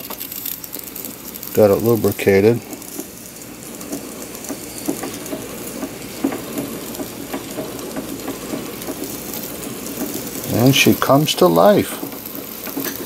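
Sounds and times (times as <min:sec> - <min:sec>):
steam engine chuffs and clicks: 0:00.0 - 0:13.0
steam hissing: 0:00.0 - 0:13.0.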